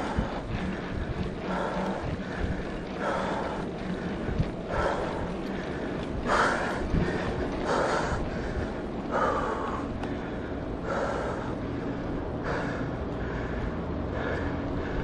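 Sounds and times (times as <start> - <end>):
person breathing hard: 0.0 - 15.0
wind rumble on microphone: 0.0 - 15.0.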